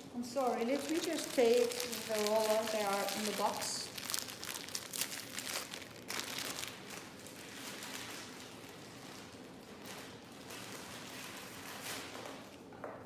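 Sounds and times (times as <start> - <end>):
hair rollers crinkling and rustling: 0.4 - 12.5.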